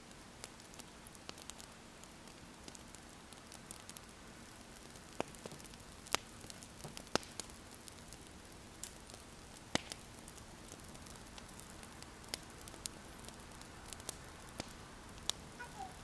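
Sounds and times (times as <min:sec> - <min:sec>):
soft steady hiss: 0:00.0 - 0:16.0
wood fire crackling and popping: 0:00.0 - 0:16.0.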